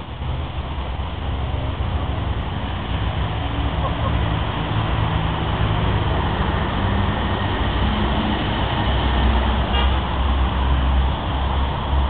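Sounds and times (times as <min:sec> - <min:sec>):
train engine humming: 0:00.0 - 0:12.0.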